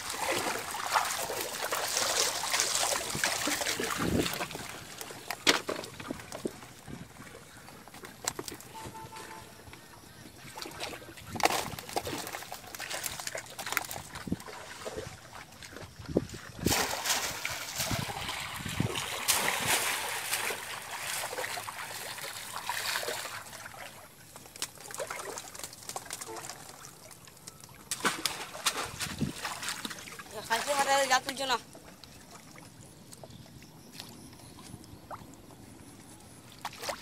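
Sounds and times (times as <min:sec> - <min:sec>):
water splashing and dribbling: 0:00.0 - 0:37.0.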